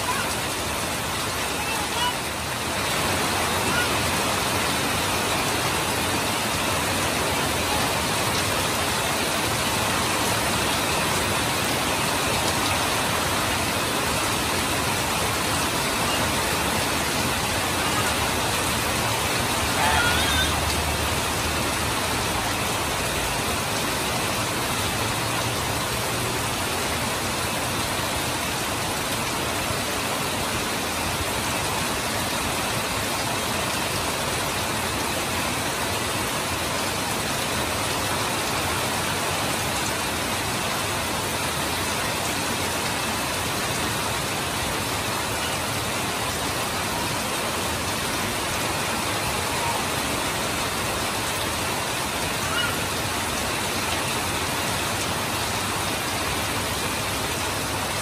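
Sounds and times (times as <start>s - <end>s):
heavy rain falling: 0.0s - 58.0s
water pouring off roof: 0.0s - 58.0s.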